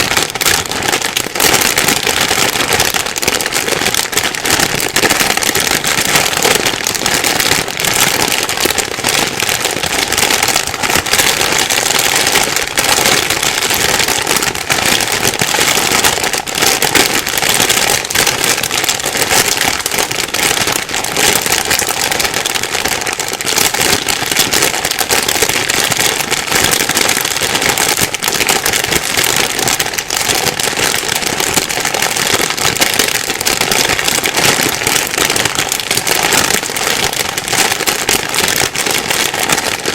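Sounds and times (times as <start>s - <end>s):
plastic bag crumpling: 0.0s - 39.9s.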